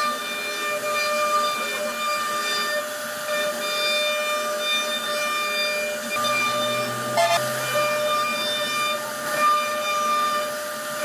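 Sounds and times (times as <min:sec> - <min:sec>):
router spindle whining: 0:00.0 - 0:11.0.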